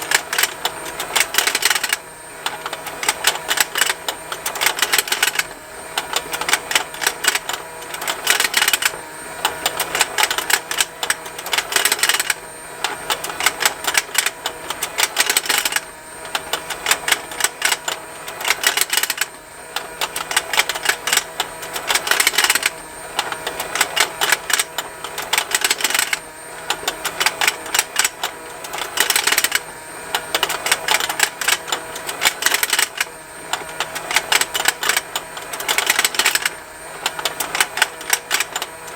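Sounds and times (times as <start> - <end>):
rapid plastic ticking: 0.0 - 38.9
small motor humming: 0.0 - 38.9.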